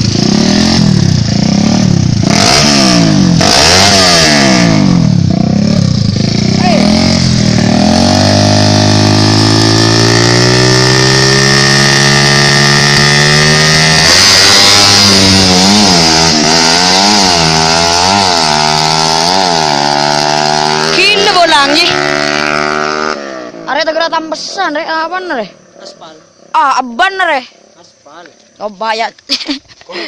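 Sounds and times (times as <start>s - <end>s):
motorcycle engine revving: 0.0s - 27.1s.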